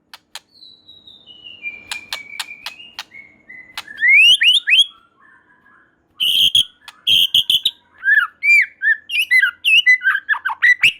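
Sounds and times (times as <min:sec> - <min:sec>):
songbird whistling and chattering: 0:00.2 - 0:10.9.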